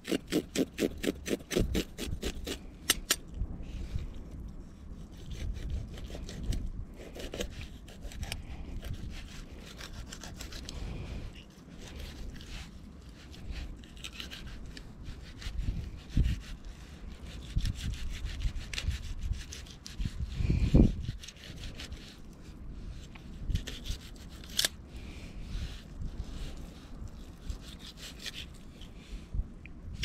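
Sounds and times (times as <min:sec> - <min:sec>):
knife scraping fish scales: 0:00.0 - 0:03.2, 0:04.6 - 0:24.8, 0:25.4 - 0:29.0.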